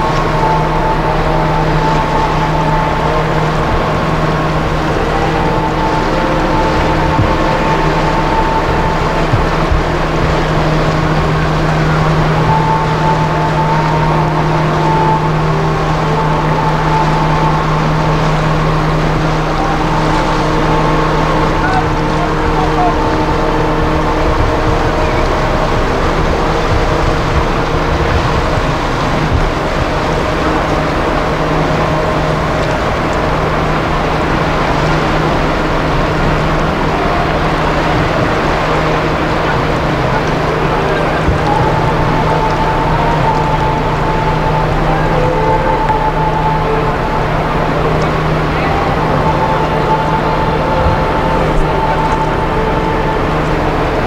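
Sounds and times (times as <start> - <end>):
ship engines low drone: 0.0 - 54.0
thin wavering high tone: 0.0 - 54.0.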